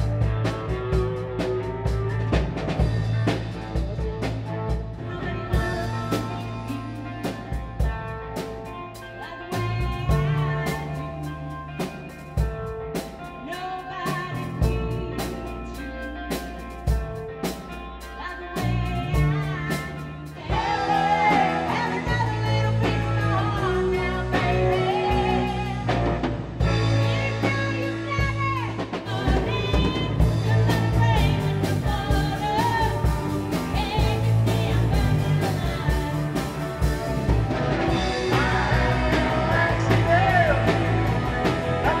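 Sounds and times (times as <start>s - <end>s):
rock band playing: 0.0s - 42.0s
lead singer: 2.8s - 42.0s.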